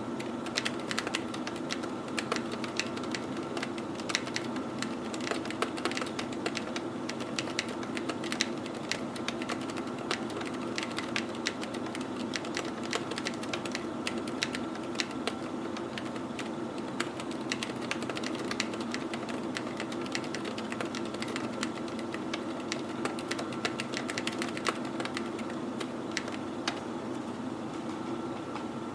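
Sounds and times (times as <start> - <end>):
computer hum: 0.0 - 28.9
muted keyboard typing: 0.2 - 26.8.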